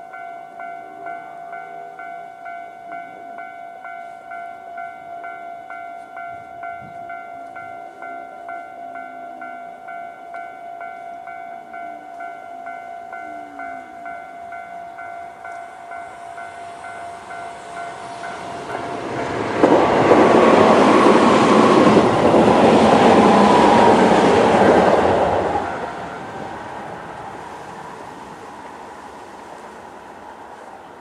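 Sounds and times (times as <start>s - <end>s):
level crossing alarm ringing: 0.0s - 26.4s
electric trains passing: 0.0s - 31.0s.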